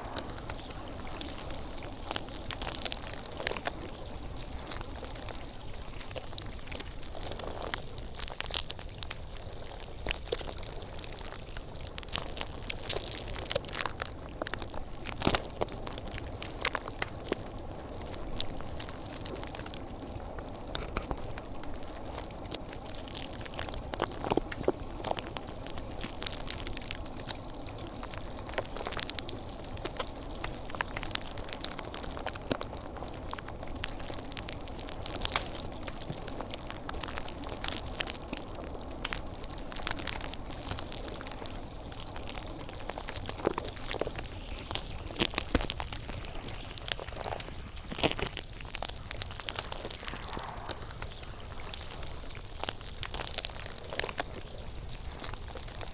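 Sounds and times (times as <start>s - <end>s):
steady hiss with crackles and pops: 0.0s - 55.9s.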